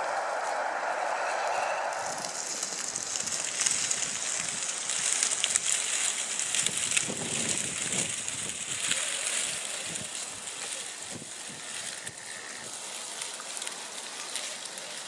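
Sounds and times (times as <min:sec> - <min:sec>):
leaves crackling under tyres: 0:00.0 - 0:15.0
toy truck drivetrain whir: 0:01.8 - 0:15.0.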